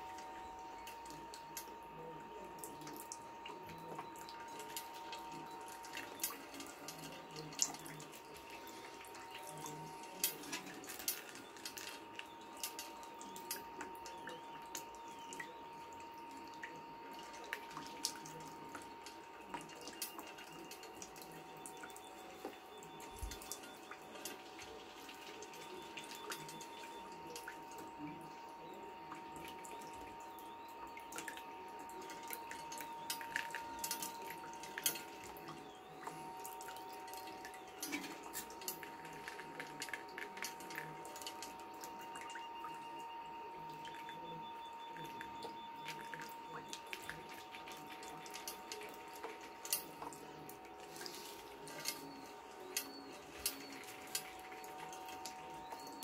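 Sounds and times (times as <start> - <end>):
faint steady high tone: 0.0 - 56.0
water trickling and dripping on pipe: 0.0 - 56.0.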